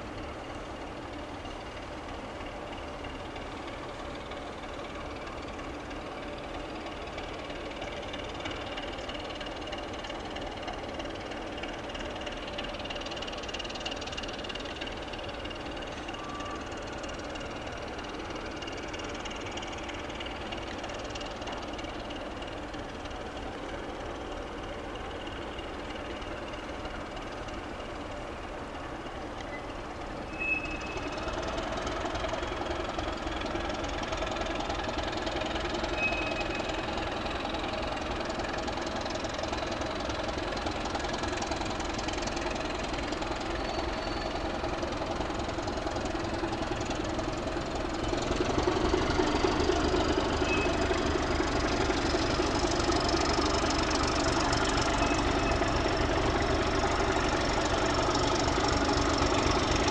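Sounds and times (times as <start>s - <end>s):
distant locomotive diesel engines: 0.0s - 59.9s.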